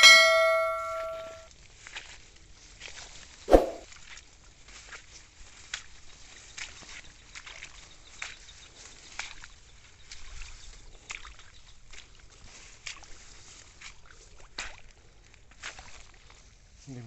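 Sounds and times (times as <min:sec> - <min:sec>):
footsteps through rice paddy: 0:01.6 - 0:03.4, 0:04.0 - 0:16.8.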